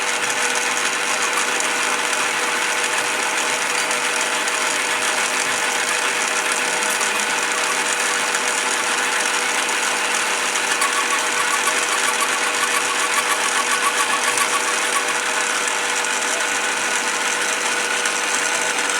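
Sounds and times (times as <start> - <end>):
rapid rhythmic ticking: 0.0 - 17.0
lathe motor humming: 0.0 - 18.9.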